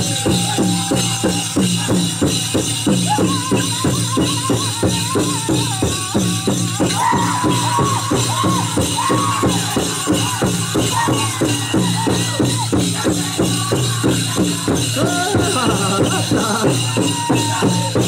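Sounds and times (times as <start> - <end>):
fast bass drum beat: 0.0 - 18.0
high wavering group singing: 0.0 - 18.0.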